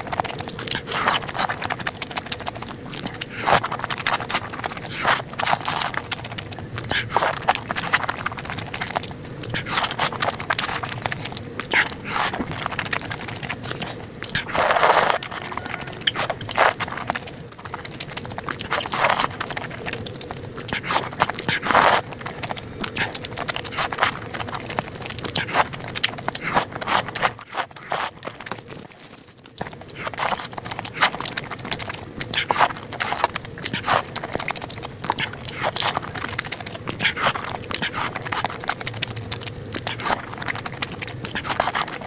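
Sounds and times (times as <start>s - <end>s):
person chewing noodles: 0.0s - 42.0s.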